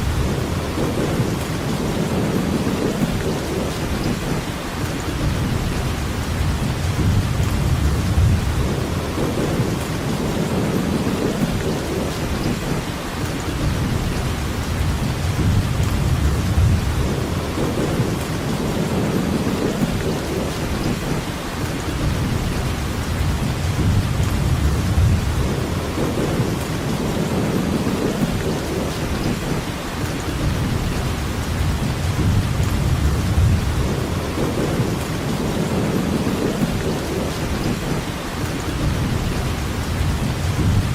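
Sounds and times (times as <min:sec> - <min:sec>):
heavy rainfall: 0:00.0 - 0:40.9.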